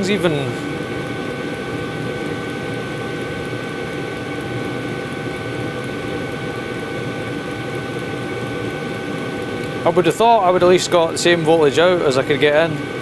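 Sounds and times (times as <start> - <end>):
heater running with whine: 0.0 - 13.0.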